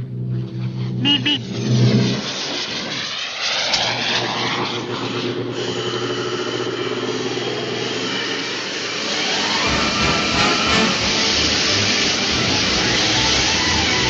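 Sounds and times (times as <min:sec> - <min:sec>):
motor engine running: 0:00.0 - 0:02.4, 0:03.8 - 0:14.0.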